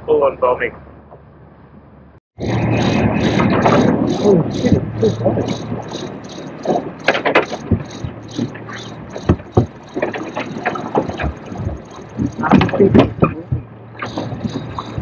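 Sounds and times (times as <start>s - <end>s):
water lapping against hull: 2.4s - 15.0s
fast high ticking: 2.7s - 15.0s.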